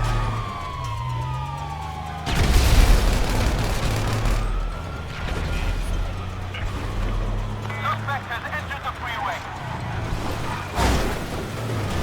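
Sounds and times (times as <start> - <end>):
police siren wailing: 0.0 - 12.0
vehicle engine humming: 0.0 - 12.0.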